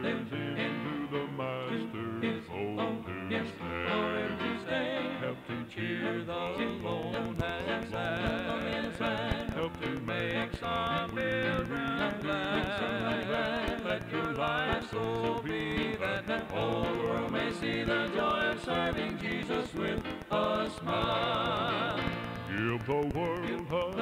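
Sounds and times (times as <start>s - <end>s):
vocal group singing a hymn: 0.0s - 24.0s.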